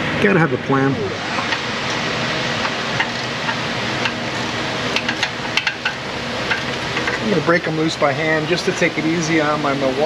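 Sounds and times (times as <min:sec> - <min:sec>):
faint hum: 0:00.0 - 0:10.0.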